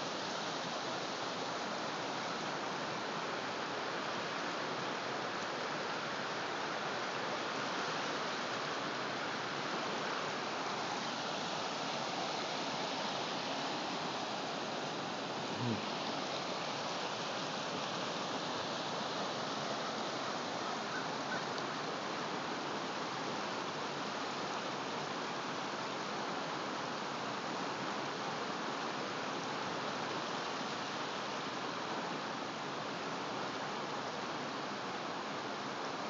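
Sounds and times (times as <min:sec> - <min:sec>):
floodwater rushing: 0:00.1 - 0:34.0.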